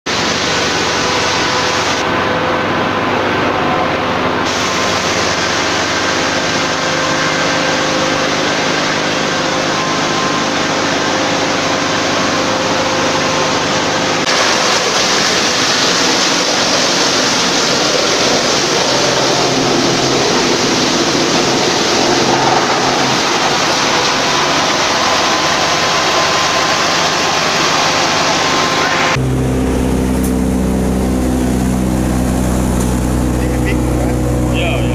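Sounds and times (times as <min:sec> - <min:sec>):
diesel engine hum: 0:00.1 - 0:34.9
wood chipper running: 0:00.1 - 0:34.9.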